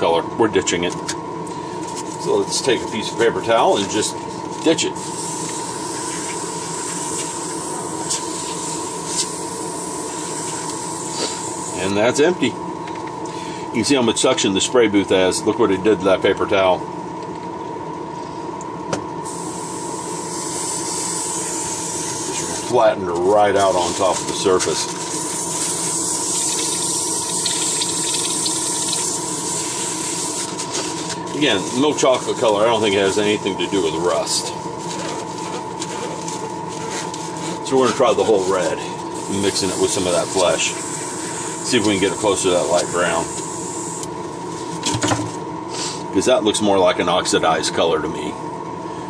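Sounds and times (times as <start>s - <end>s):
exhaust fan running: 0.0s - 49.0s.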